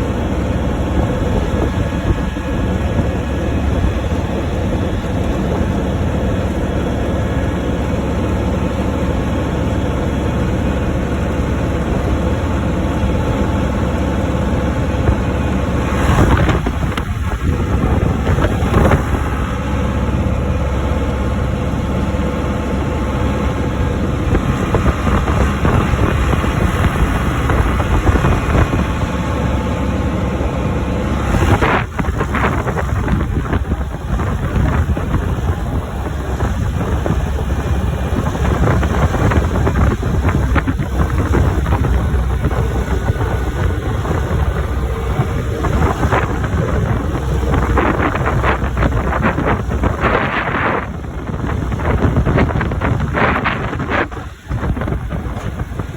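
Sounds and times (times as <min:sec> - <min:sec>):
tractor engine running: 0:00.0 - 0:55.9
wind buffeting microphone: 0:00.0 - 0:55.9.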